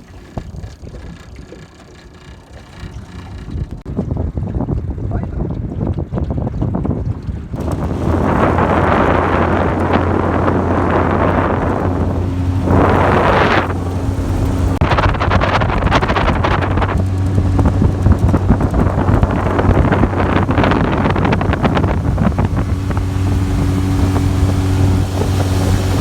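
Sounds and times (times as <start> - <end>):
boat motor humming: 0.0 - 26.0
wind buffeting microphone: 0.0 - 26.0.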